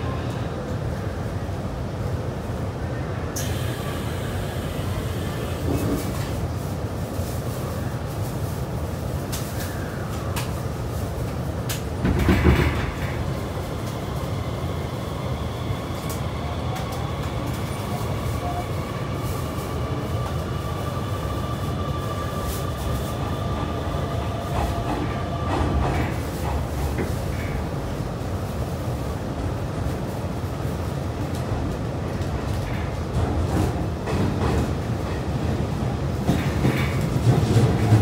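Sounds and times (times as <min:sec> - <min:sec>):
train running low rumble: 0:00.0 - 0:38.0.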